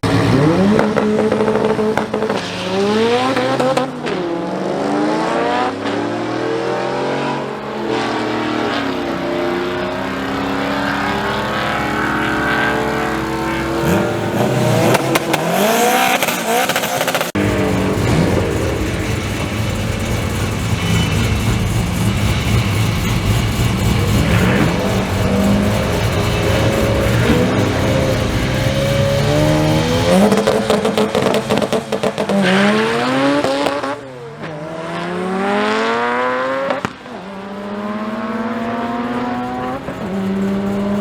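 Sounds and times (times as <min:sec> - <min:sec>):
car engines accelerating: 0:00.0 - 0:41.0
engine running at high revs: 0:00.0 - 0:41.0.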